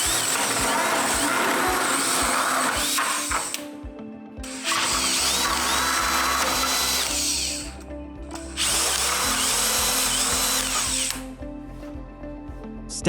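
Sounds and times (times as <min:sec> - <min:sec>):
electric drill with hole saw: 0:00.0 - 0:03.8, 0:04.4 - 0:11.3.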